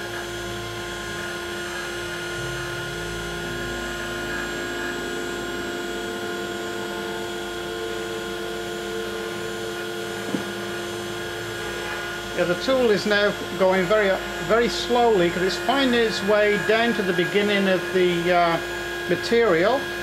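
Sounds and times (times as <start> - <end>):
router spindle motor running: 0.0 - 20.0
stepper motors low tones: 0.0 - 20.0.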